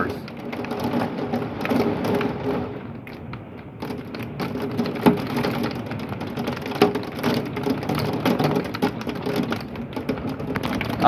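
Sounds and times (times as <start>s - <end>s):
hailstones clicking: 0.0s - 11.0s
heavy rain pattering: 0.0s - 11.0s.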